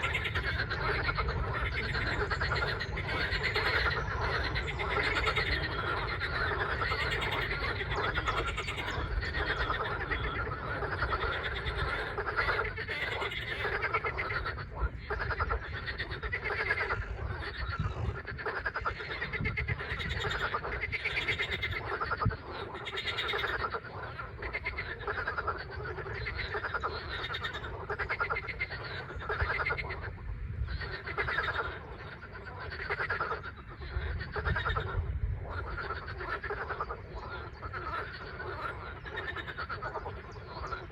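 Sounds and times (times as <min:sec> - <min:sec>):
frogs croaking: 0:00.0 - 0:40.9.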